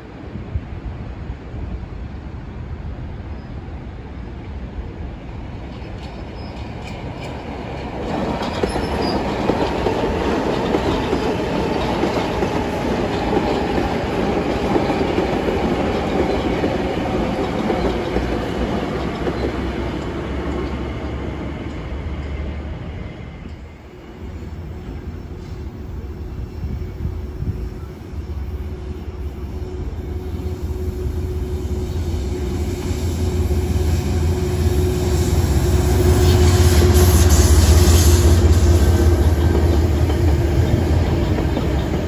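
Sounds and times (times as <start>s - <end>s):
train passing on rails: 0.0s - 42.0s.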